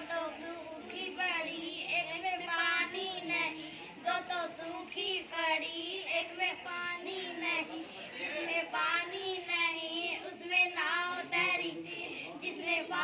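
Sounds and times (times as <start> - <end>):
boy singing: 0.0 - 13.0.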